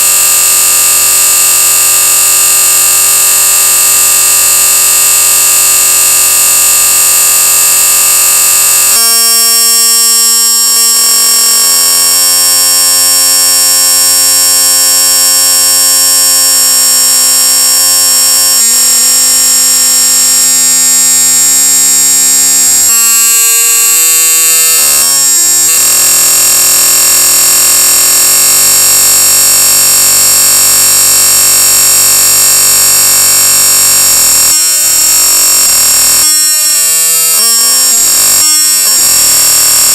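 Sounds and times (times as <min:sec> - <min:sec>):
harsh alarm-like tones: 0:00.0 - 0:39.9.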